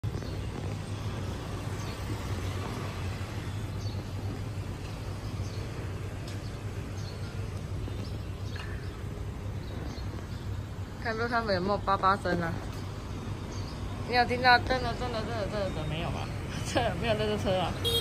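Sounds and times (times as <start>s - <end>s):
traffic engine rumble: 0.0s - 18.0s
tyre and street noise: 0.0s - 18.0s.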